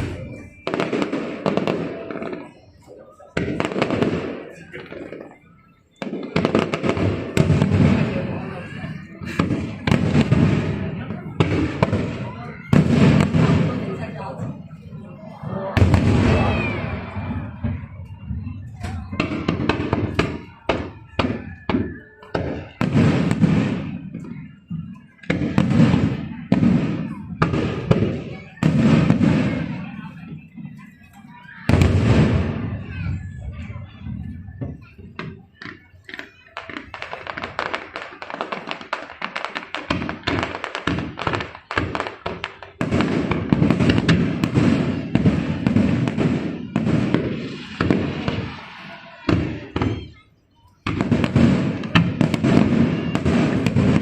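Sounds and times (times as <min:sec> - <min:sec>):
fireworks shells bursting: 0:00.0 - 0:54.0.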